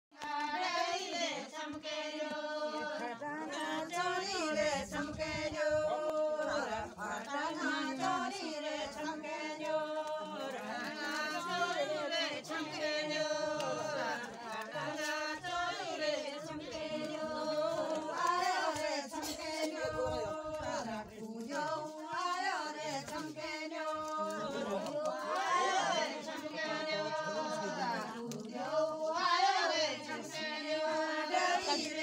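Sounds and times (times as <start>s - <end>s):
women singing unaccompanied: 0.1s - 32.0s.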